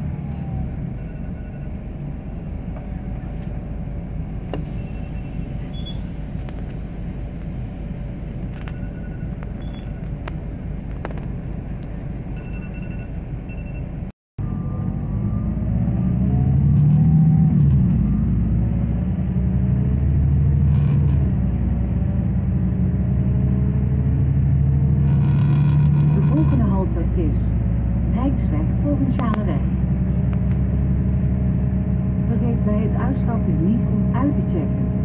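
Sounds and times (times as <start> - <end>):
bus engine and road rumble: 0.0 - 35.0.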